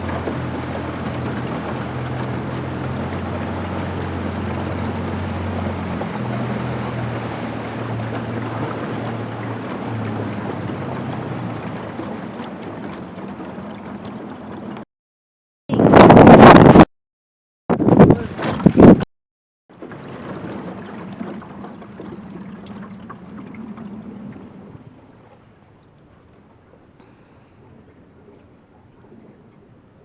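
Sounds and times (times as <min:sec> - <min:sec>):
boat motor hum: 0:00.0 - 0:14.9, 0:19.7 - 0:30.0
water rushing around hull: 0:00.0 - 0:14.9, 0:15.7 - 0:16.9, 0:17.7 - 0:19.1, 0:19.7 - 0:30.0.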